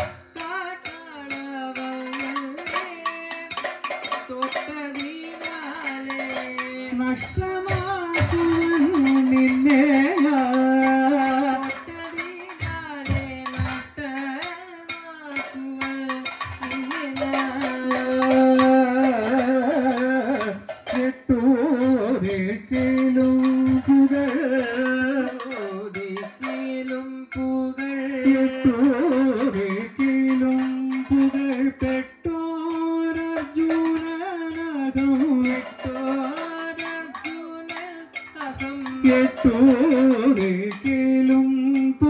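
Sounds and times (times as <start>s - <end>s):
percussion strokes: 0.0s - 42.0s
person singing classical song: 0.0s - 42.0s.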